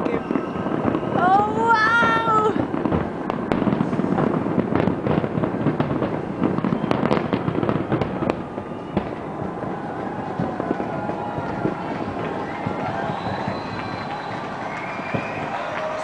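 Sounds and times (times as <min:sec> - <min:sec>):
distant fireworks crackling and banging: 0:00.0 - 0:16.0.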